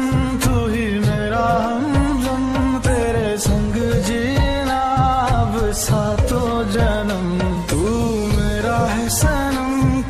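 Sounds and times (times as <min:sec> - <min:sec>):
regular drum beat: 0:00.0 - 0:10.0
song with gliding melody: 0:00.0 - 0:10.0.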